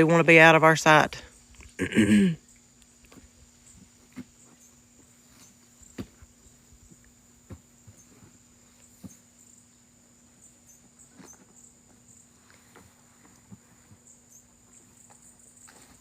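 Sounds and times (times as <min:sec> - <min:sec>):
insect chirring: 0:01.2 - 0:12.4, 0:14.0 - 0:16.0.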